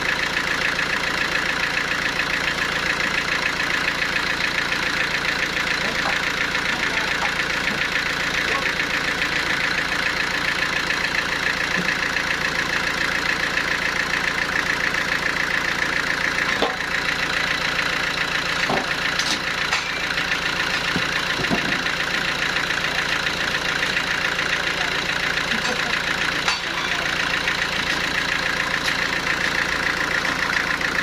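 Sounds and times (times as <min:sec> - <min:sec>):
sawmill machinery drone and rattle: 0:00.0 - 0:31.0.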